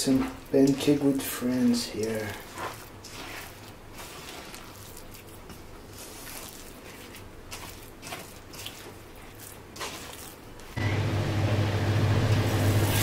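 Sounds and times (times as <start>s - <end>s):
spatula squishing wet dough: 0.0s - 10.8s.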